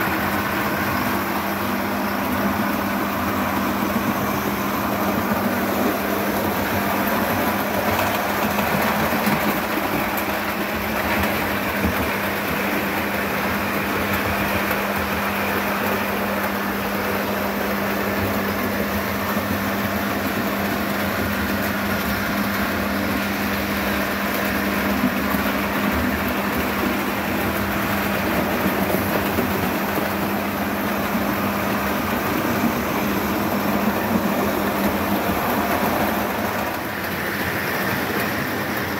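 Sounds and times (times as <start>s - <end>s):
wheels rolling on track: 0.0s - 38.9s.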